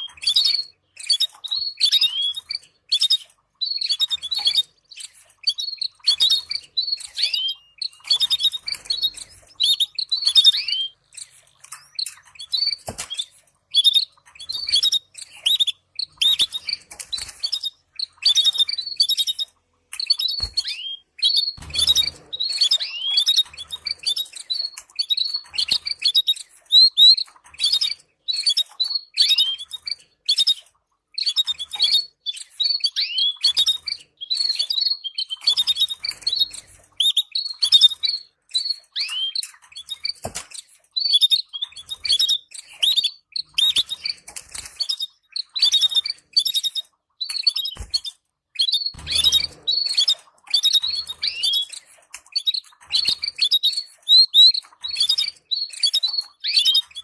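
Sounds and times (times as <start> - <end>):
canaries chirping: 0.0 - 57.0.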